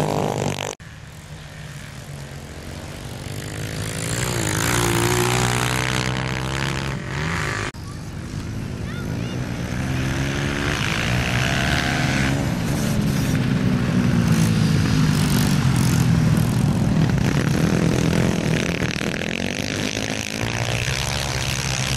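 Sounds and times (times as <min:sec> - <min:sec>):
motorcycle engines revving hard: 0:00.0 - 0:21.9.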